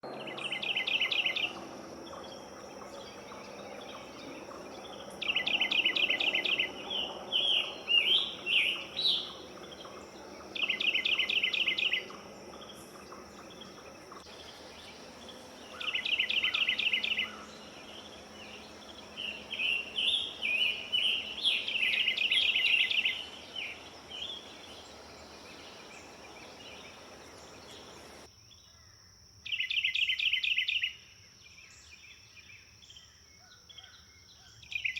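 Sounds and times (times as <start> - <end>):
songbird singing: 0.0 - 34.9
high insect-like tone: 0.3 - 28.3.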